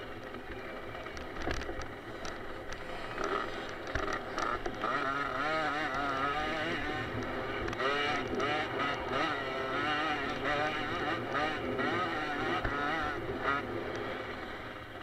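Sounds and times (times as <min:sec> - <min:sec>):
motocross bike engine racing: 0:00.0 - 0:15.0.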